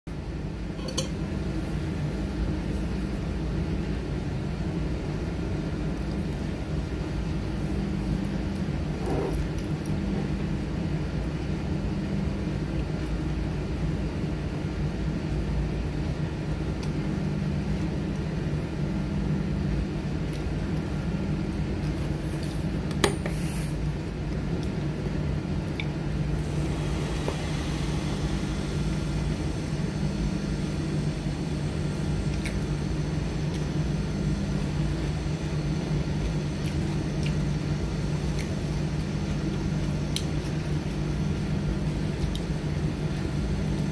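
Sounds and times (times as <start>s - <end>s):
low mechanical hum: 0.1s - 43.9s.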